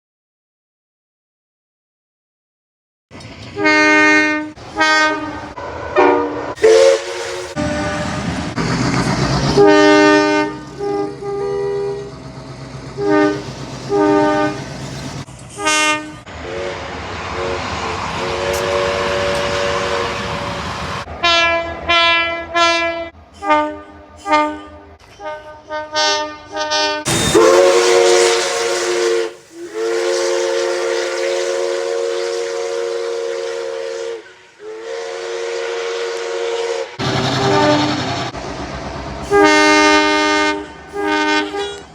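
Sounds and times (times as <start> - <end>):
train running noise: 3.1 - 41.9
train horn blasts: 3.5 - 8.5, 9.5 - 12.2, 12.9 - 14.7, 15.5 - 38.3, 39.2 - 41.9.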